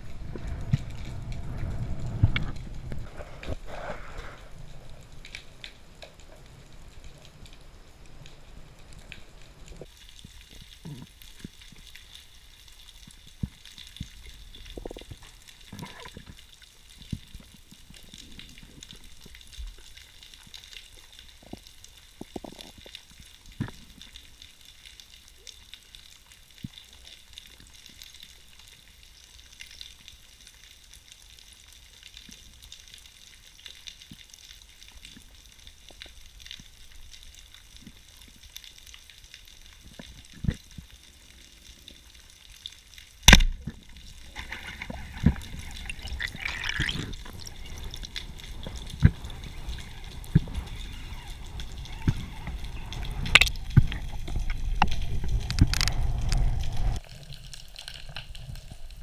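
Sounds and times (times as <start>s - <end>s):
underwater crackling hiss: 0.0s - 8.2s, 8.9s - 28.9s, 32.2s - 59.0s.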